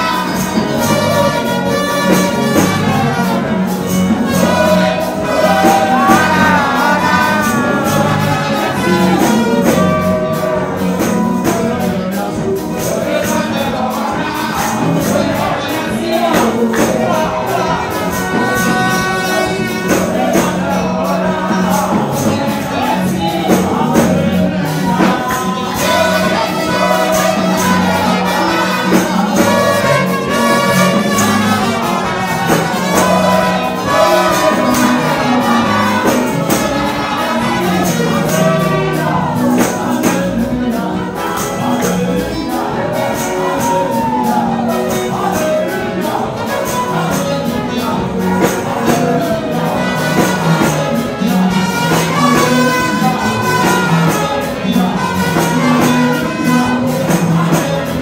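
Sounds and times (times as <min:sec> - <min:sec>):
gospel band with steady beat: 0:00.0 - 0:58.0
man singing into a microphone: 0:00.0 - 0:58.0.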